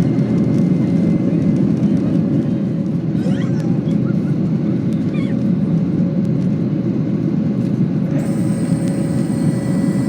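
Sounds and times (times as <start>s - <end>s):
jet engines and airflow rush: 0.0s - 10.0s.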